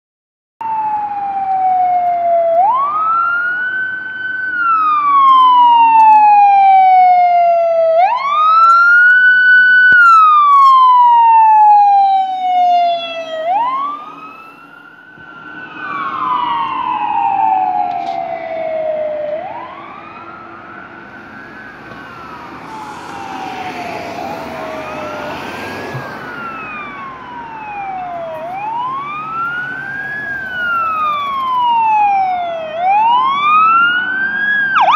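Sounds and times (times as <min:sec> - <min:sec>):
ambulance siren wailing: 0:00.6 - 0:34.9
second siren wailing: 0:00.6 - 0:34.9.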